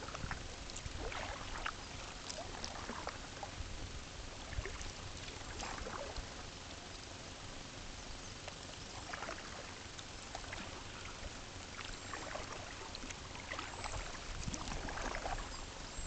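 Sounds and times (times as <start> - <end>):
water splashes and drips: 0.0 - 3.7, 4.4 - 7.1, 8.4 - 15.8
steady water wash: 0.0 - 16.0.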